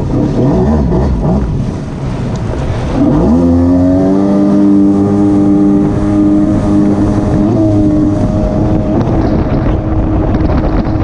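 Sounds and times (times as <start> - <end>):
watercraft engine revving: 0.0 - 11.0
wind and water rushing: 0.0 - 11.0.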